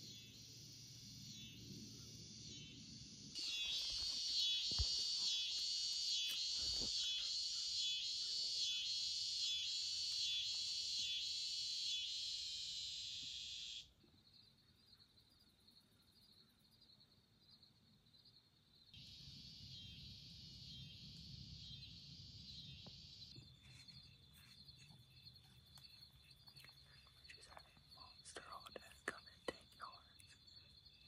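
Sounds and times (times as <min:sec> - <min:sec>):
faint insect trill: 0:00.0 - 0:31.0
insects buzzing in pulsing chorus: 0:00.0 - 0:31.0.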